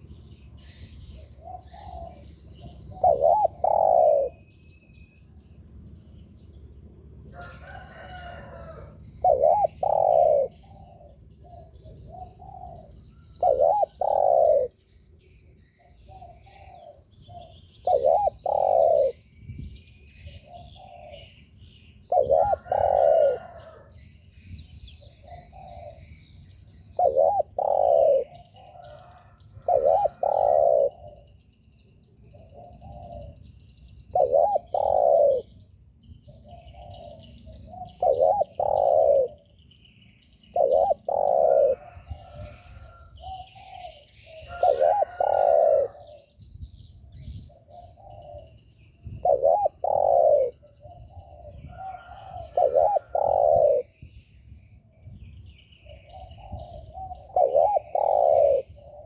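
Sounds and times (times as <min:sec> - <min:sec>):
dove cooing: 0:00.0 - 0:04.5, 0:07.4 - 0:14.8, 0:15.8 - 0:19.3, 0:20.0 - 0:21.4, 0:22.0 - 0:23.9, 0:24.9 - 0:26.3, 0:26.9 - 0:31.4, 0:32.2 - 0:33.5, 0:34.1 - 0:39.6, 0:40.5 - 0:46.4, 0:47.1 - 0:54.0, 0:55.8 - 0:59.0.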